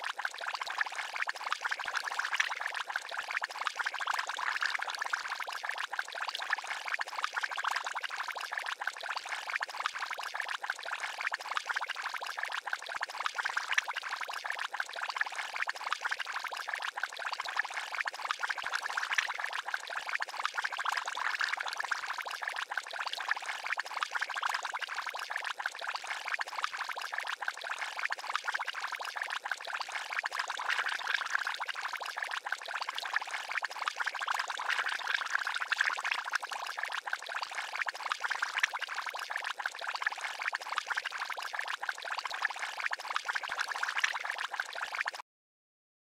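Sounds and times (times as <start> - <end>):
liquid bubbling: 0.1 - 4.1, 4.8 - 20.8, 21.8 - 24.4, 25.2 - 45.2.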